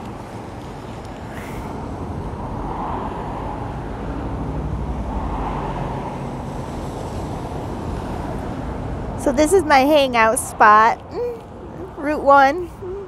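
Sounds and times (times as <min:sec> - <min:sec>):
faint engine hum: 0:00.0 - 0:13.0
highway traffic: 0:00.0 - 0:13.0.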